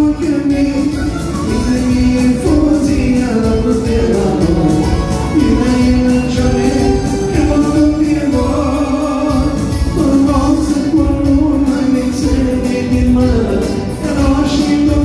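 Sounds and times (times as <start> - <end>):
loud dance music: 0.0 - 15.0
person singing: 0.0 - 15.0.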